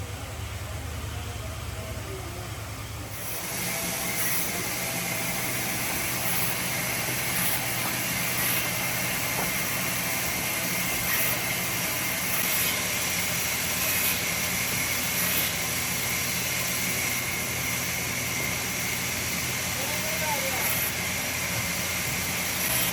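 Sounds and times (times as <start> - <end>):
woodworking machine motor whine: 0.0 - 22.9.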